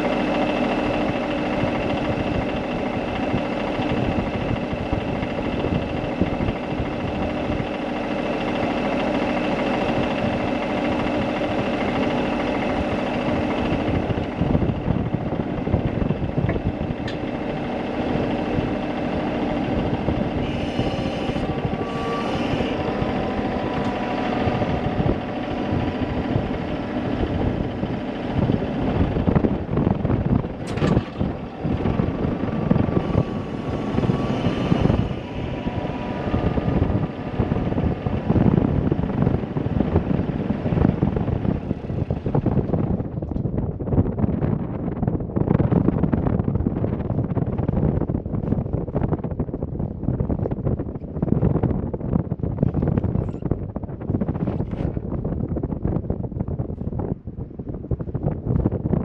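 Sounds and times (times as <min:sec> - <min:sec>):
engine running roughly: 0:00.0 - 0:59.0.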